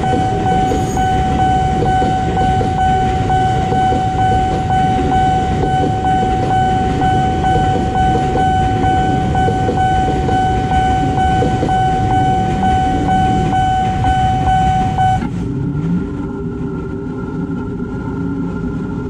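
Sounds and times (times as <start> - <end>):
level-crossing warning bell: 0.0 - 15.3
electric train passing: 0.0 - 15.4.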